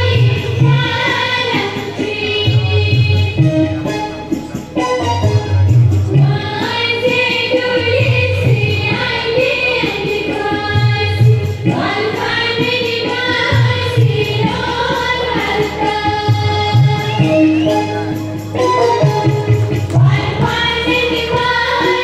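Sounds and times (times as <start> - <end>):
women singing together: 0.0 - 3.9, 6.1 - 17.8, 19.8 - 22.0.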